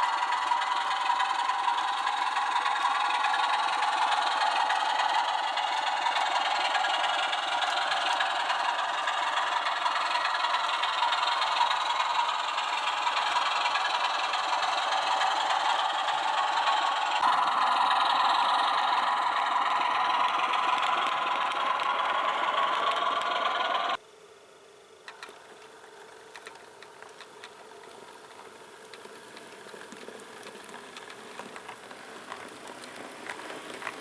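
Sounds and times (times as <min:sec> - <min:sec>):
model train running on track: 0:00.0 - 0:24.0, 0:25.1 - 0:34.0.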